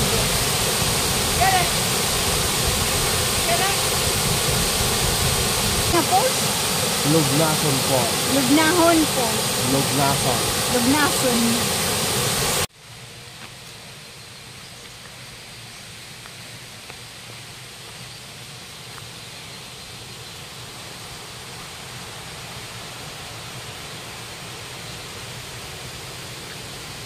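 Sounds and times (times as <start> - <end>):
flowing river water: 0.0 - 27.0.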